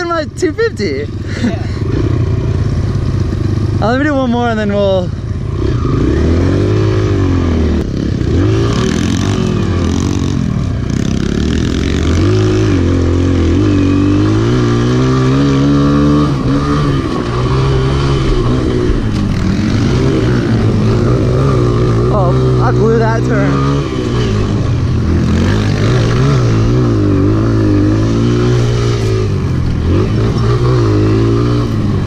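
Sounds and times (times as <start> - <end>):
small motorbike engine revving: 5.5 - 32.0.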